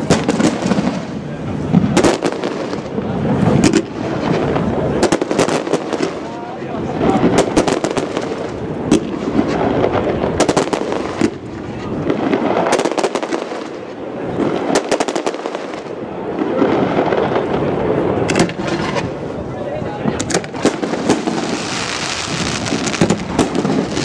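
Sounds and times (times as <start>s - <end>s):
fireworks bursting and crackling: 0.0s - 24.0s
steady background noise: 0.0s - 24.0s.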